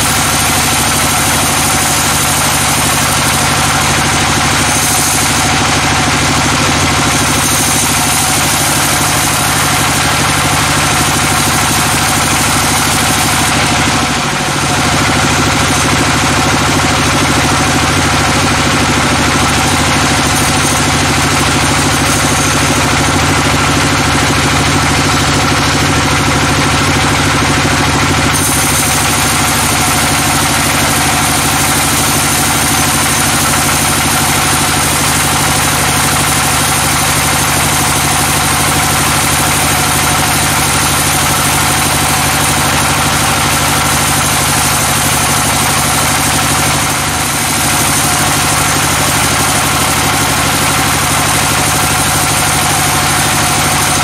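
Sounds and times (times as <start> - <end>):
band saw drone: 0.0 - 54.0.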